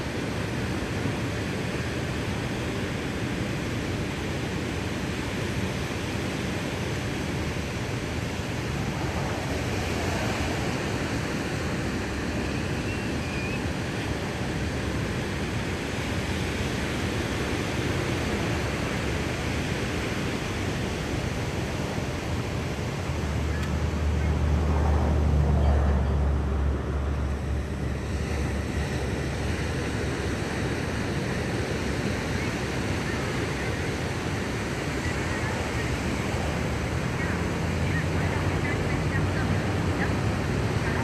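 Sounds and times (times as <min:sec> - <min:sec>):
ocean surf: 0:00.0 - 0:41.0
wind: 0:00.0 - 0:41.0.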